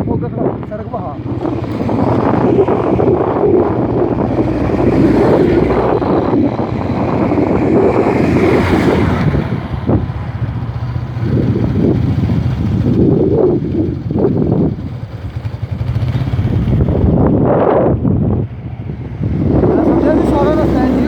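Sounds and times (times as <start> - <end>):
motorcycle engine humming: 0.0 - 21.0
wind buffeting microphone: 0.0 - 21.0.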